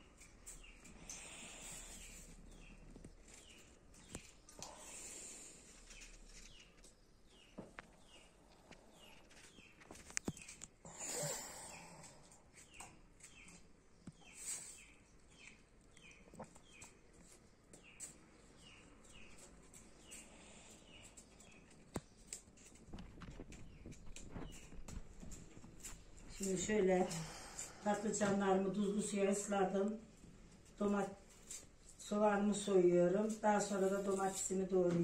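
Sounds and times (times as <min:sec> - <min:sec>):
faint bird chirping: 0:00.0 - 0:35.0.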